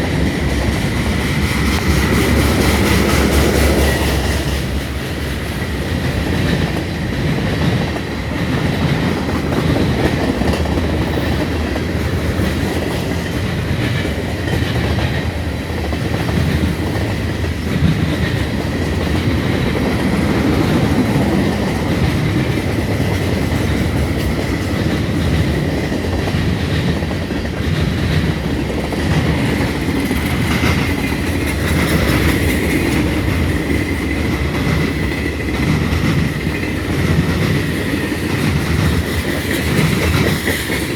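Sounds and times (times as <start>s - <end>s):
train wheels clattering: 0.0s - 40.9s.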